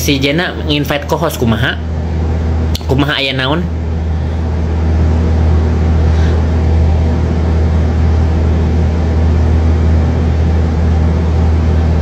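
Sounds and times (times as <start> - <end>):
steady low mechanical hum: 0.0 - 12.0.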